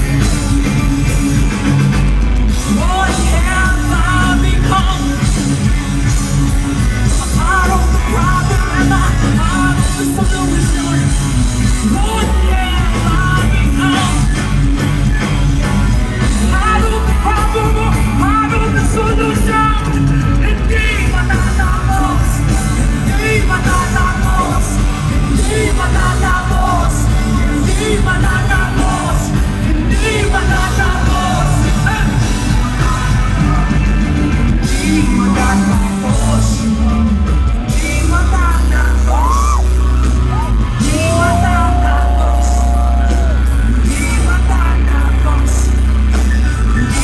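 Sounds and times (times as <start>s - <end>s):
live rock band playing: 0.0s - 47.0s
vocalist singing into microphone: 2.5s - 47.0s.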